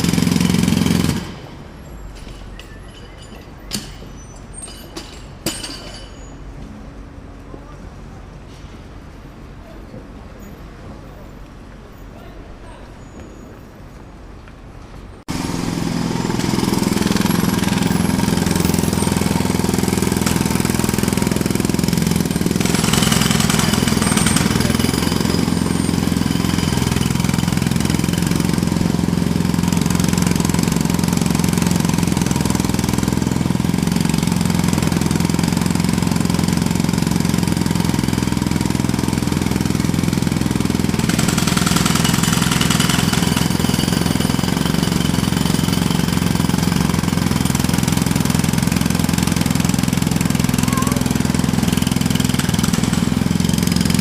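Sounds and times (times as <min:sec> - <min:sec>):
jackhammer hammering: 0:00.0 - 0:06.2, 0:15.3 - 0:54.0.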